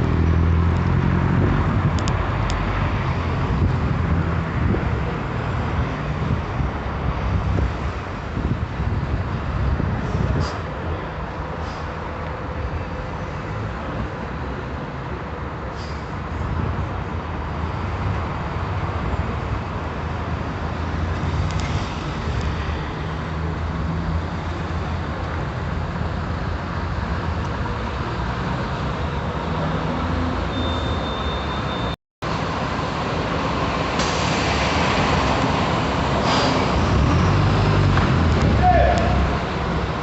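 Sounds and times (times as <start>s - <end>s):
bus diesel engine droning: 0.0s - 17.6s, 18.4s - 40.0s.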